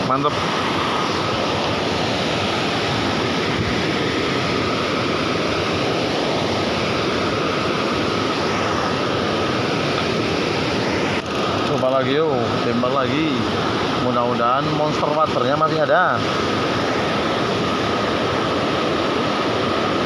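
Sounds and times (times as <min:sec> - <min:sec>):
water rushing over weir: 0:00.0 - 0:20.0.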